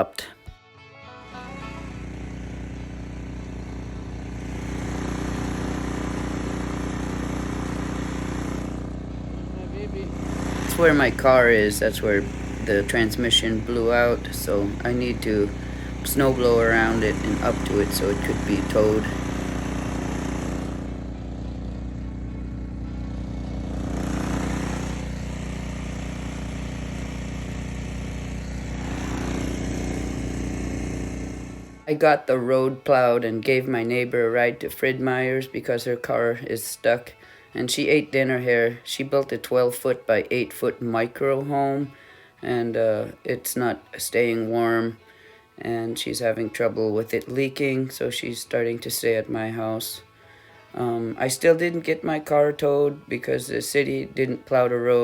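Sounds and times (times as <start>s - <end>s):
engine running: 1.0s - 55.0s.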